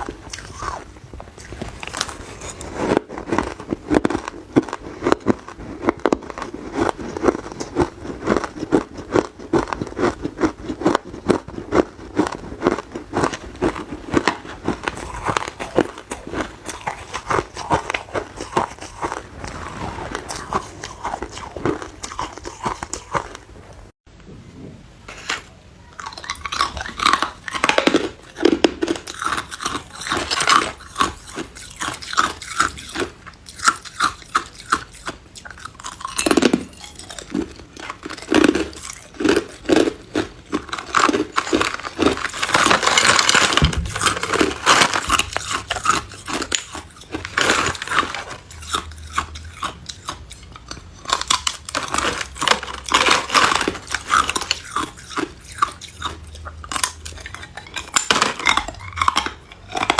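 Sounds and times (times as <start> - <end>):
ice cubes crunching: 1.4 - 23.4, 26.0 - 59.9.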